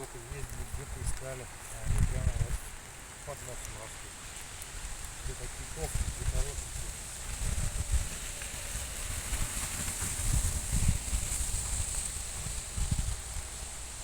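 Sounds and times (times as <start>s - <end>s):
rustling of undergrowth: 0.0s - 14.0s
steady high hiss: 0.0s - 14.0s
wind rumble on microphone: 0.0s - 14.0s.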